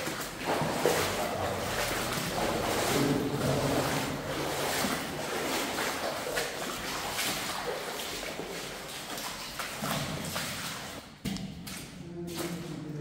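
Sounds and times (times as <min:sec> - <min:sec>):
boots splashing through water: 0:00.0 - 0:12.8.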